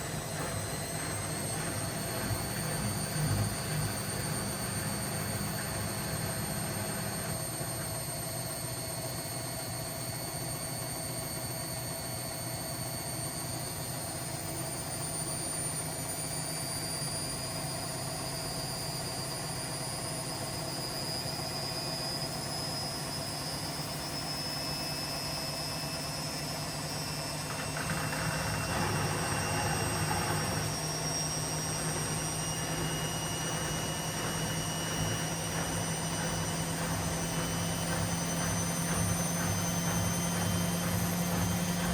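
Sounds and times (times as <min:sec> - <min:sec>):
high whining tones: 0:00.0 - 0:09.1, 0:14.7 - 0:41.9
washing machine running: 0:00.0 - 0:41.9.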